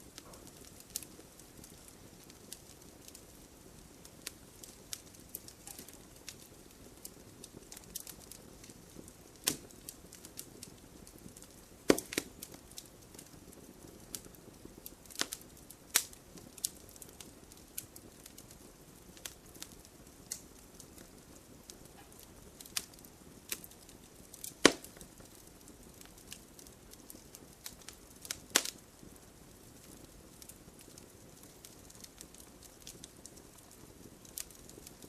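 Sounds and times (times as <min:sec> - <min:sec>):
loud fire cracks: 0:00.0 - 0:35.0
wood fire crackling: 0:00.0 - 0:35.0.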